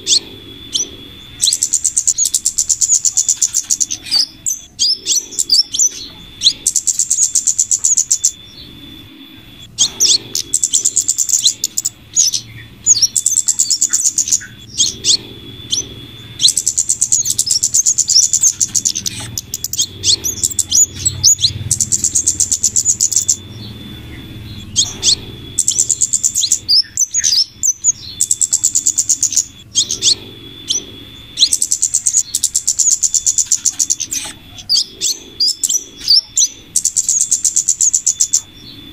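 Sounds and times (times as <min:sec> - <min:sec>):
rapid high-pitched bird chirping: 0:00.0 - 0:38.9
steady thin high tone: 0:00.0 - 0:38.9.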